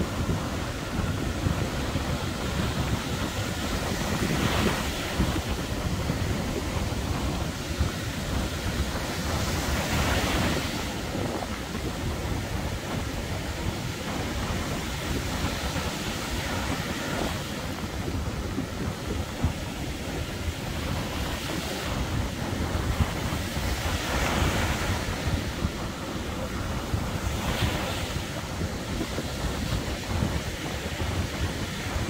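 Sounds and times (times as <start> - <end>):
surf breaking on a beach: 0.0 - 32.0
wind buffeting microphone: 0.0 - 32.0.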